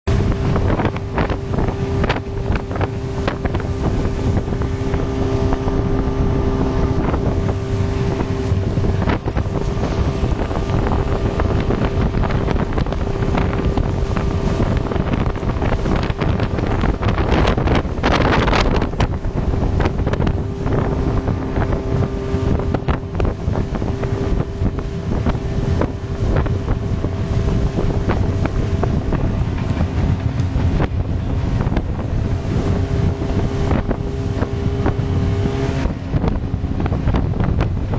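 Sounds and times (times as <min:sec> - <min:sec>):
outboard motor running: 0:00.0 - 0:37.9
rush of wind and spray: 0:00.0 - 0:37.9
wind buffeting microphone: 0:00.0 - 0:37.9
hull knocking on water: 0:00.1 - 0:37.9.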